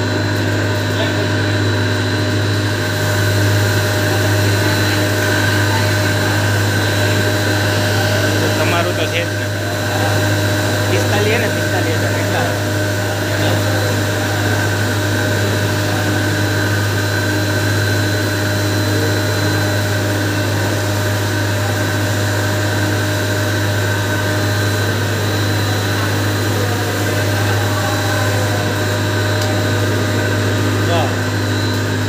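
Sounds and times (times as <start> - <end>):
grinding machine humming and whining: 0.0 - 32.0.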